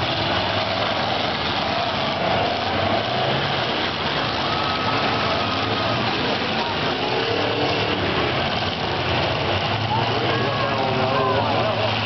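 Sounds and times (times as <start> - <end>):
car engines revving together: 0.0 - 12.0.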